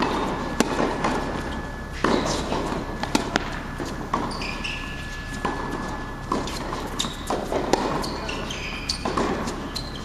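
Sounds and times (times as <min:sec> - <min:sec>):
racket striking ball: 0:00.0 - 0:09.8
tennis ball bouncing: 0:00.0 - 0:10.0.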